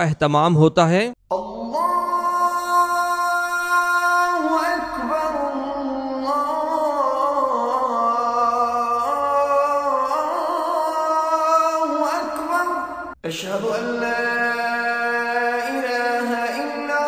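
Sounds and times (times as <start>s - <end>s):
slow sung melody: 1.3s - 17.0s.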